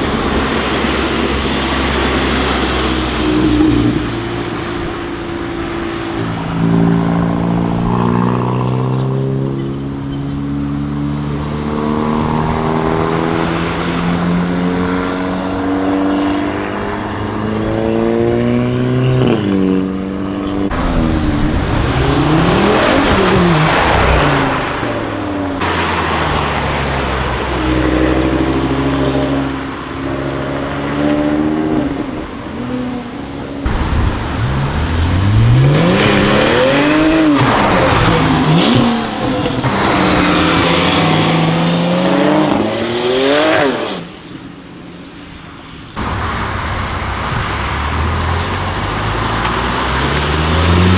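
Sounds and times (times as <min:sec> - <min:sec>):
car engines revving past: 0:00.0 - 0:45.1, 0:45.9 - 0:50.9.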